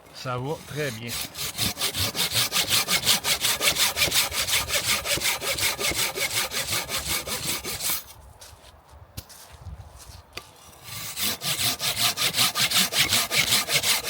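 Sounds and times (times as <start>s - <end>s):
hand saw cutting wood: 0.0s - 8.1s, 10.6s - 14.0s.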